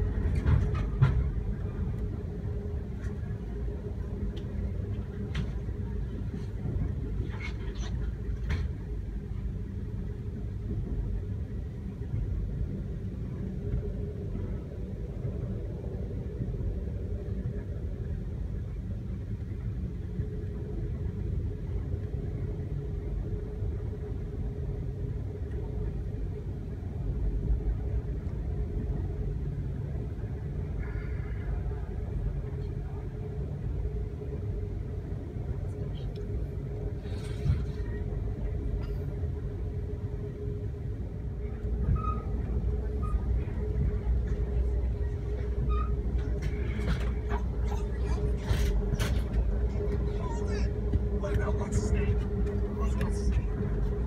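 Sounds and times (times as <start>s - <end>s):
train rumbling on tracks: 0.0s - 54.0s.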